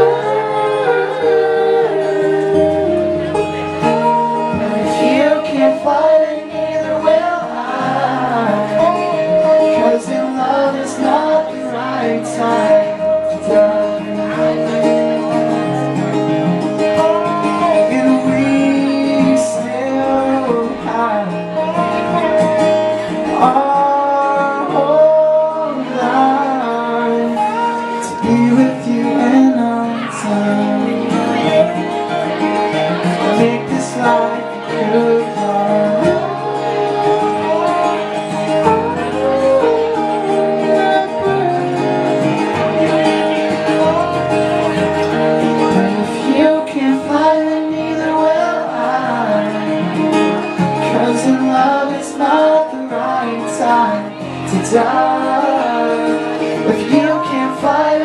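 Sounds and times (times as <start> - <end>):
acoustic guitar playing: 0.0 - 58.0
person singing: 0.0 - 58.0.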